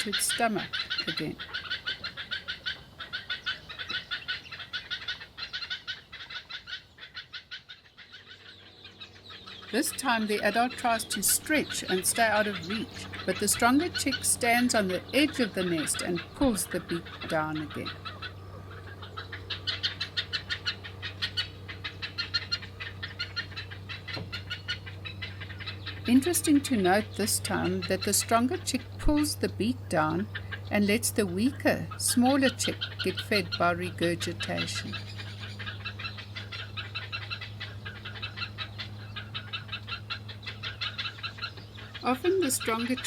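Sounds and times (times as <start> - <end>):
heron chicks chattering calls: 0.0 - 43.0
low steady hum: 0.0 - 43.0.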